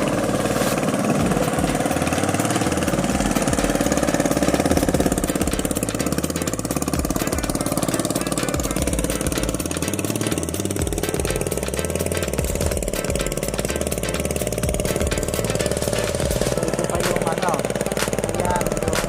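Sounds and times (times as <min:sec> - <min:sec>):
diesel engine chugging: 0:00.0 - 0:19.0.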